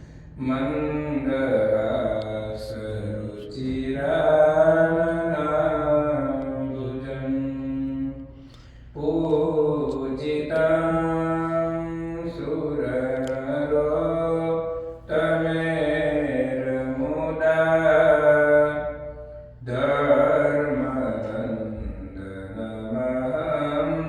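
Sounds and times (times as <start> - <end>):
person chanting a mantra: 0.0 - 24.0
steady low hum: 0.0 - 24.0.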